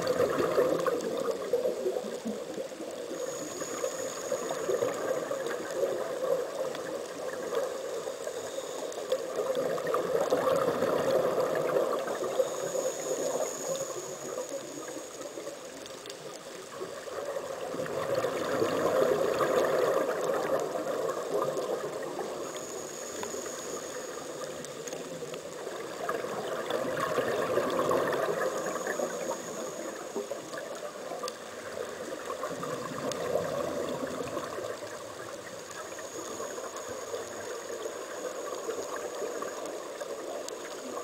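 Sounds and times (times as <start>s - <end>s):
underwater air bubbles gurgling: 0.0s - 41.0s.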